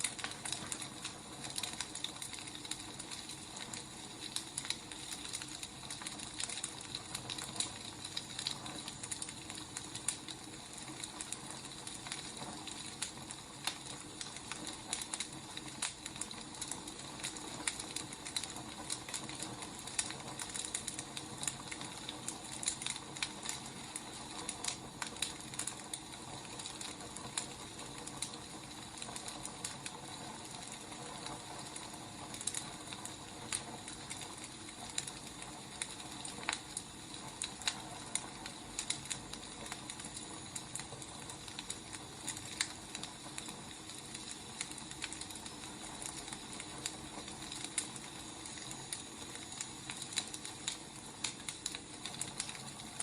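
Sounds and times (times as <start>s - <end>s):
firewood crackling: 0.0s - 53.0s.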